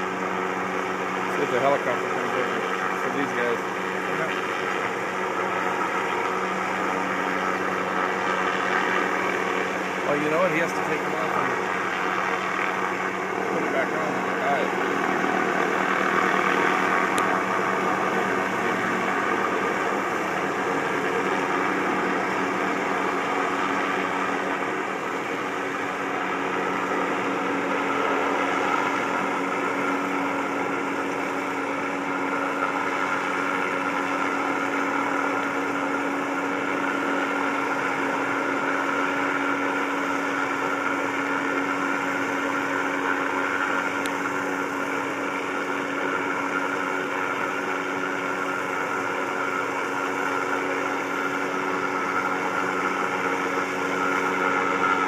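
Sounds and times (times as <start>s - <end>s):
engine drone with whine: 0.0s - 55.0s.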